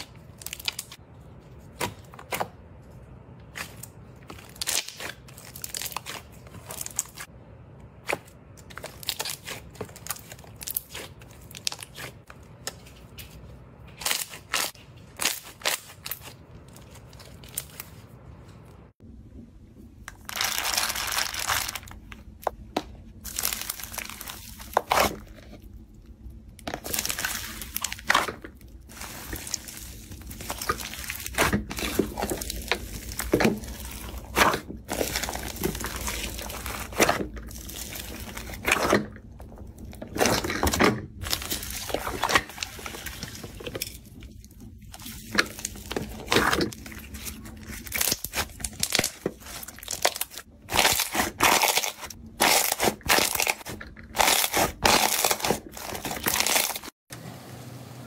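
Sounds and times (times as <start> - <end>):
slime crackling and crunching: 0.0 - 1.0, 3.4 - 7.3, 8.0 - 18.1, 20.1 - 57.0.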